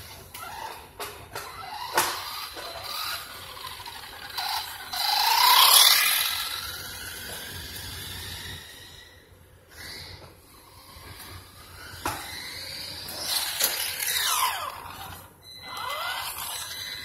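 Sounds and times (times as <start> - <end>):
toy truck electric motor whining: 0.0 - 17.0.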